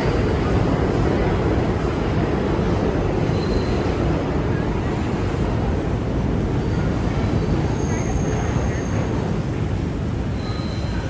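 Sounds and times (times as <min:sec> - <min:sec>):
subway train pulling out: 0:00.0 - 0:11.0.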